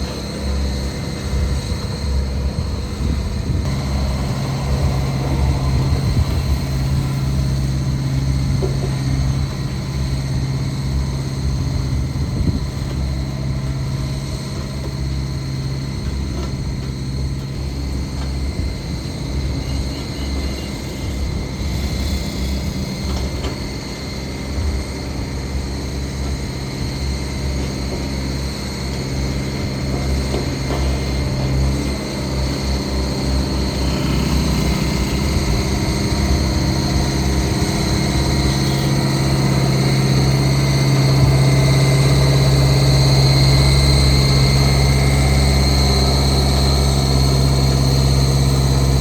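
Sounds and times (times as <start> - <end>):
heavy diesel engine humming: 0.0 - 49.0.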